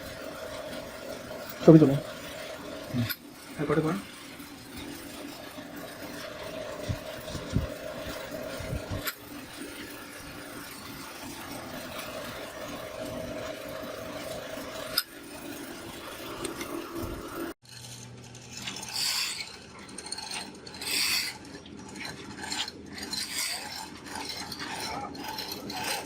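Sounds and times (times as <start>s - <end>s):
hand tool rubbing and scraping: 0.0s - 26.0s.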